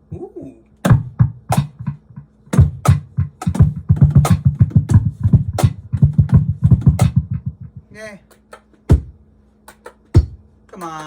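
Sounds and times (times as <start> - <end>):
cajon hand strikes: 0.8 - 11.0.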